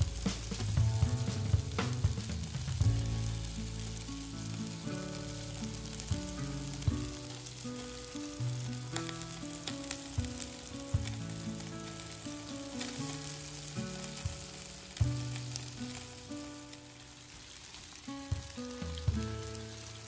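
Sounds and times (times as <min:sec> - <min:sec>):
scallops sizzling on a grill: 0:00.0 - 0:20.0
slow melodic music: 0:00.0 - 0:20.0.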